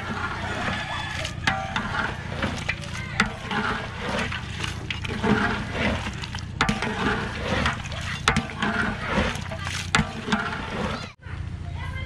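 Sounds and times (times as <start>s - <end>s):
meat bubbling and sizzling: 0.0s - 10.3s
ladle scraping in pot: 0.0s - 11.2s.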